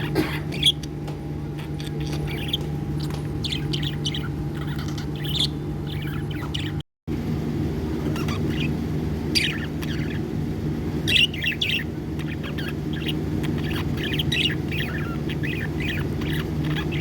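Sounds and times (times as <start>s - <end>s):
budgerigars chirping: 0.0s - 6.8s, 8.0s - 10.4s, 11.0s - 17.0s
steady low hum: 0.0s - 17.0s.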